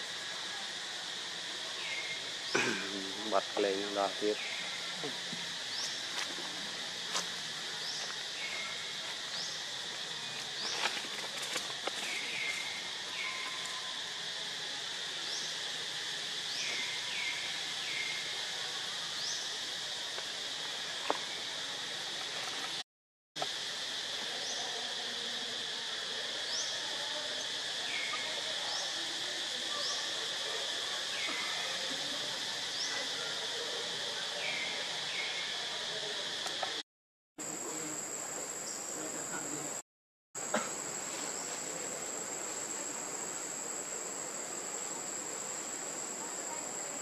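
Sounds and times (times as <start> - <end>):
insect drone: 0.0 - 22.8, 23.4 - 36.8, 37.4 - 39.8, 40.4 - 47.0.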